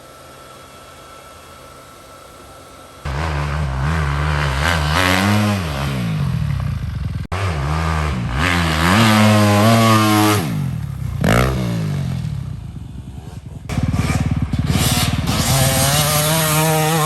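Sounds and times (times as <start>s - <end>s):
dirt bike engine revving: 3.0s - 17.0s.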